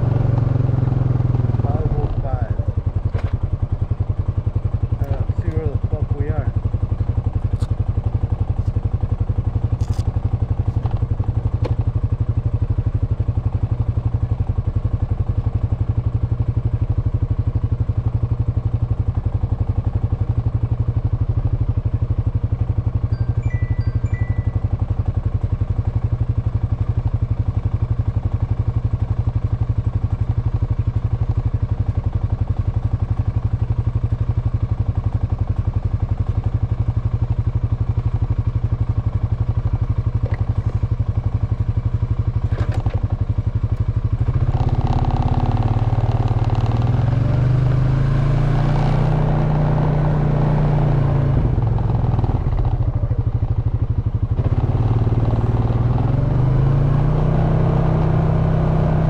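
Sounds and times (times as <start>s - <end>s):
atv engine idling and revving: 0.0s - 59.0s.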